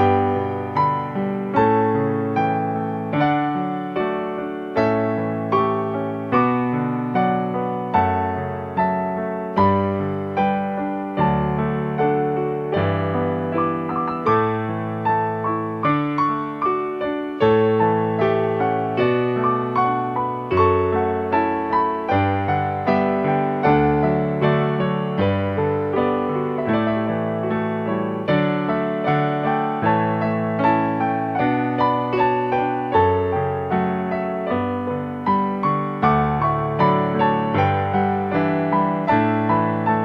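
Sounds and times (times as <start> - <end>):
piano music: 0.0 - 40.0.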